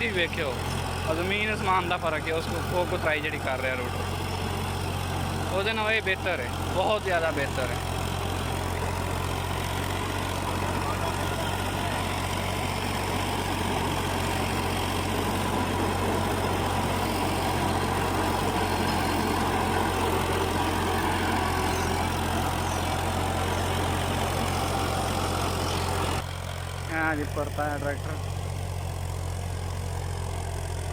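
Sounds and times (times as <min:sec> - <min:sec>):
tractor diesel engine droning: 0:00.0 - 0:30.9
rotavator churning soil: 0:00.1 - 0:26.2.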